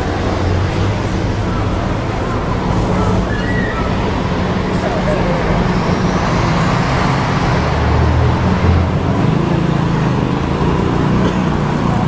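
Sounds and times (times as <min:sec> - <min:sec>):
vehicles passing with engine hum: 0:00.0 - 0:12.0.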